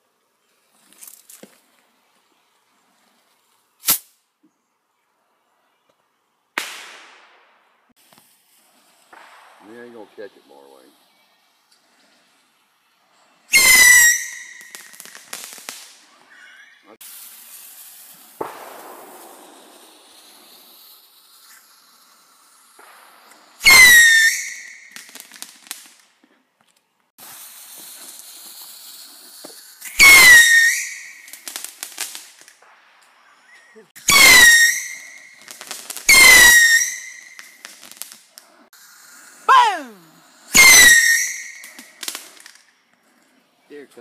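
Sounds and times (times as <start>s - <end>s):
whistling fireworks: 6.5s - 26.2s, 27.1s - 44.0s
faint hissing: 7.9s - 44.0s.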